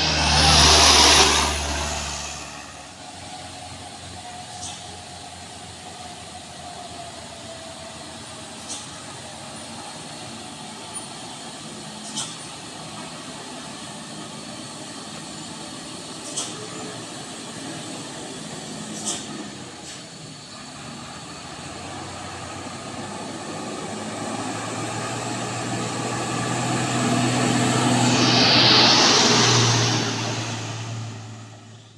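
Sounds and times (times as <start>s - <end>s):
truck diesel engine hum: 0.0s - 31.9s.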